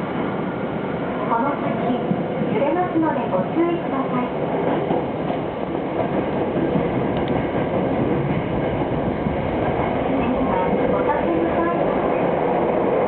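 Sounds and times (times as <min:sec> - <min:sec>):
subway train wheels on rails: 0:00.0 - 0:13.0.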